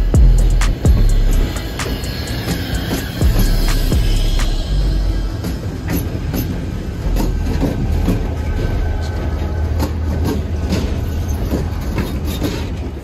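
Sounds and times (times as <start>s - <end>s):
locomotive engine and rail rumble: 0.0s - 13.0s
wheels clacking on rail joints: 0.0s - 13.0s.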